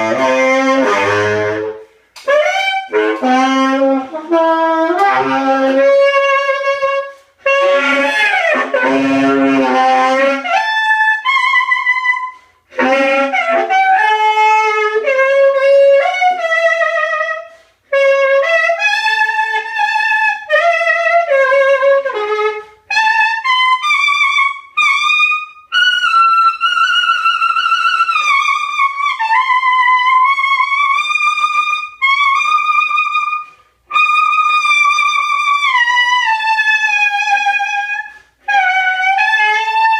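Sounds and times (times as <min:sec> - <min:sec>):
saxophone improvising: 0:00.0 - 0:39.9.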